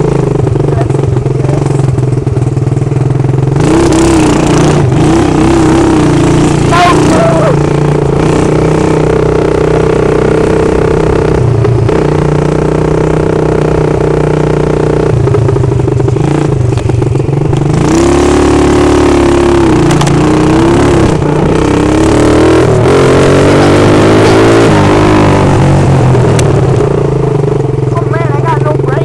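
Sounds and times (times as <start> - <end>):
unmuffled atv engine revving: 0.0 - 29.0.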